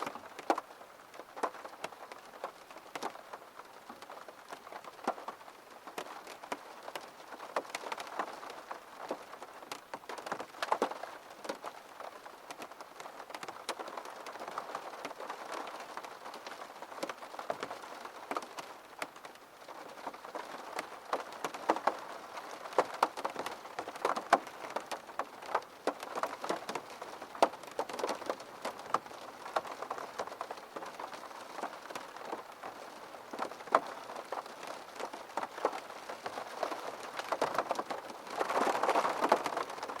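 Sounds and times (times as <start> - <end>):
rain on a window: 0.0 - 40.0.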